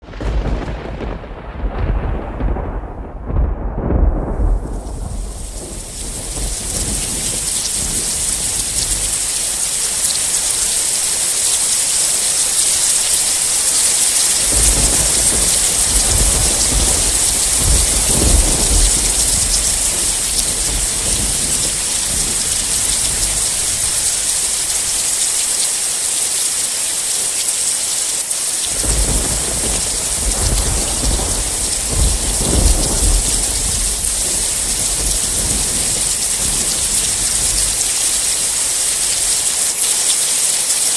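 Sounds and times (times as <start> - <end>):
thunder rumbling: 0.0 - 25.6, 28.7 - 39.8
heavy rain falling: 0.0 - 40.9.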